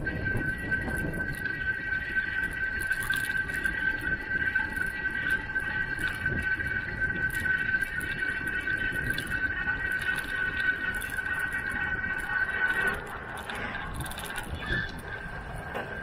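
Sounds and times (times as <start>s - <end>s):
bicycle tyre noise: 0.0s - 16.0s
steady high whine: 0.0s - 16.0s
wind buffeting microphone: 0.0s - 16.0s.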